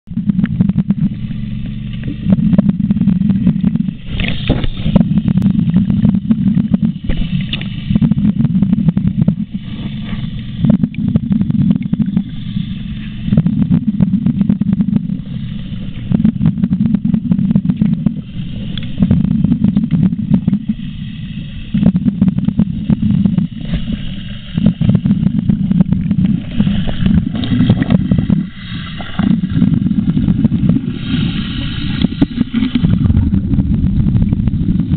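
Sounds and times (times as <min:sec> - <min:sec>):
underwater dredge engine rumble: 0:00.0 - 0:34.9
exhaled air bubbles hissing: 0:00.2 - 0:34.9.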